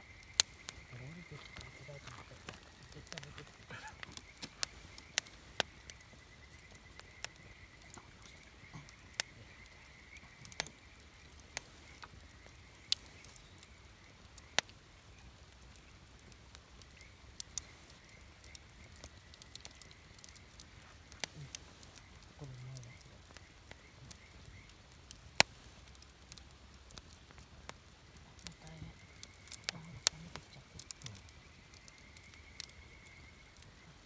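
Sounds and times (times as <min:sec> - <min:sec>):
campfire wood crackling: 0:00.0 - 0:34.0.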